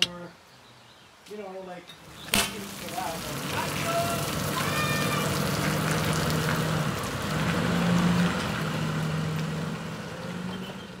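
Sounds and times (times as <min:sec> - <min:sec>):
truck engine pulling away: 0:02.0 - 0:11.0.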